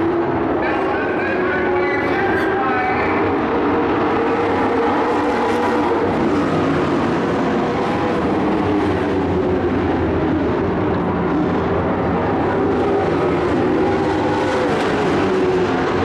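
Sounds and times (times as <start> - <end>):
race truck engines at speed: 0.0 - 16.0.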